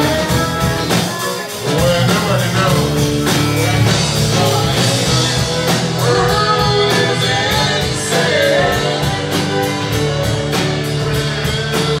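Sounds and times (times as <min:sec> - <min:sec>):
drums: 0:00.0 - 0:12.0
fiddle melody: 0:00.0 - 0:12.0.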